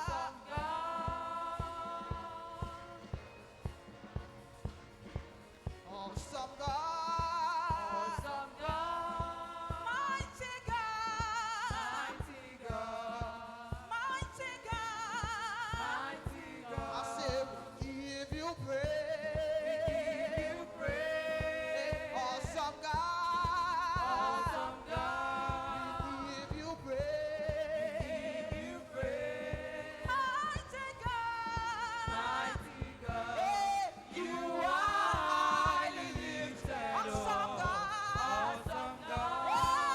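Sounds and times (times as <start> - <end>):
band accompaniment with steady beat: 0.0 - 39.9
gospel chorus singing: 0.0 - 39.9.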